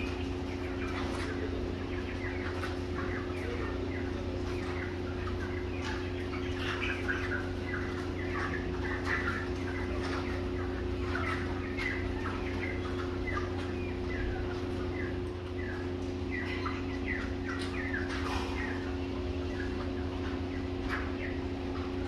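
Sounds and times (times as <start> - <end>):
young chickens calling: 0.0 - 22.0.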